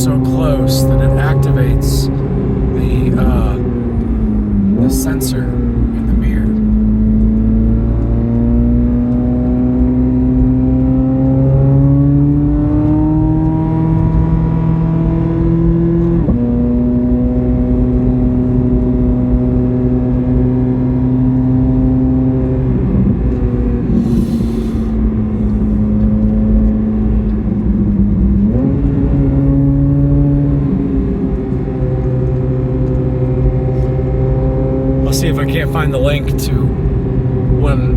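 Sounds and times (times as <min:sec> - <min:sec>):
sports car engine revving: 0:00.0 - 0:37.9.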